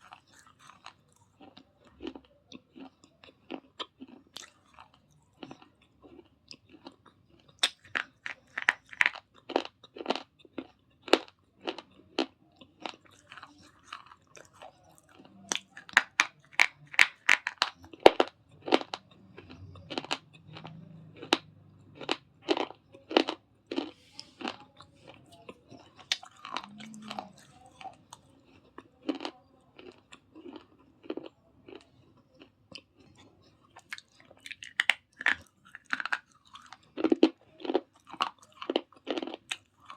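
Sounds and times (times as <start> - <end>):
grinding chews: 0.0 - 39.9
person crunching brittle pieces: 0.0 - 39.9.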